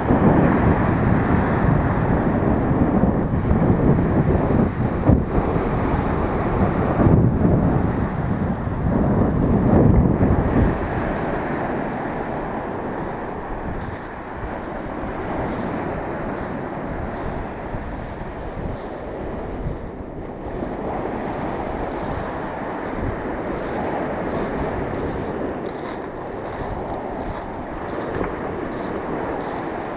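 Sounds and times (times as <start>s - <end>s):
waves breaking on shore: 0.0s - 29.9s
wind buffeting microphone: 0.0s - 29.9s.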